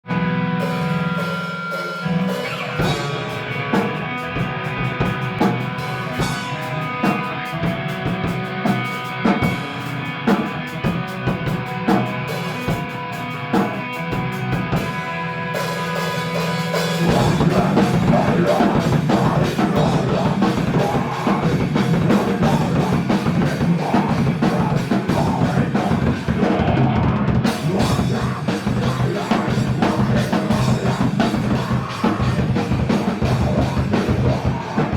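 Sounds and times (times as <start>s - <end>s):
rock band music: 0.0s - 34.9s.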